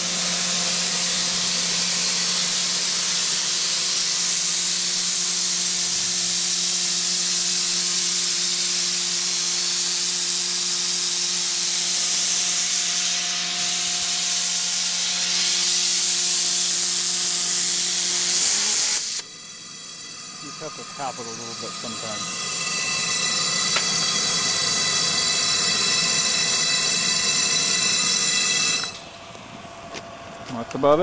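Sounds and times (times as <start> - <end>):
safety valve hissing steam: 0.0 - 29.1.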